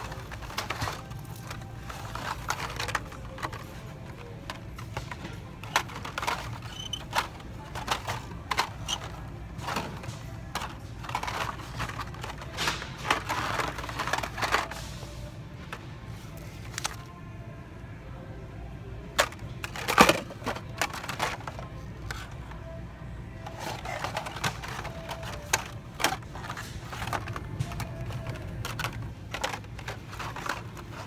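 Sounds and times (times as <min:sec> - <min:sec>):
plastic packages clicking and rustling: 0:00.0 - 0:17.2, 0:19.1 - 0:22.8, 0:23.4 - 0:31.0.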